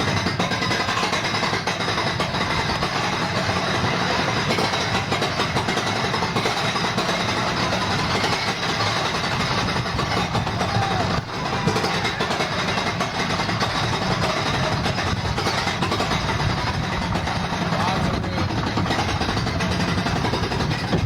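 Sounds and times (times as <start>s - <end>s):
roller coaster train clattering: 0.0s - 21.0s.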